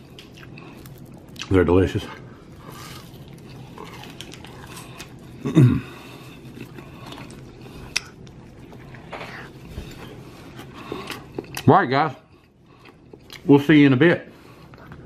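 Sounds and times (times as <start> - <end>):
quiet chewing: 0.0 - 1.6, 2.2 - 13.5.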